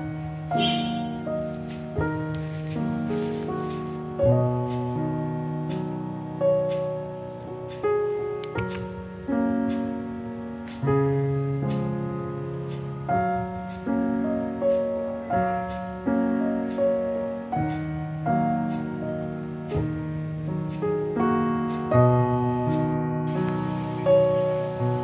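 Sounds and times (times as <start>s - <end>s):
piano chords and melody: 0.0s - 25.0s.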